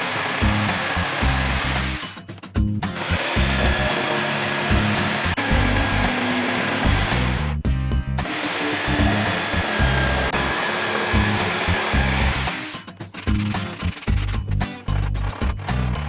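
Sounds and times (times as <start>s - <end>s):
power tool running: 0.0s - 7.6s, 8.2s - 16.0s
background music with beat: 1.9s - 15.8s.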